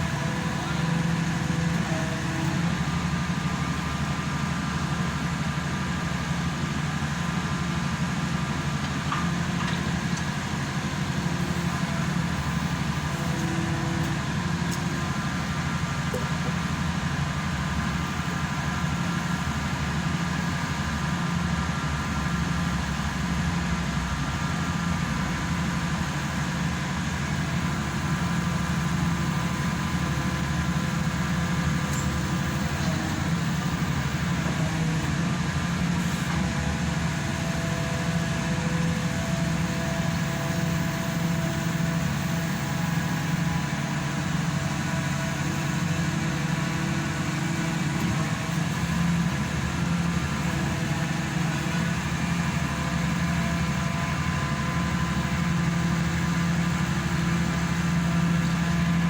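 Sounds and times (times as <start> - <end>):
pile driver engine humming: 0.0 - 59.0.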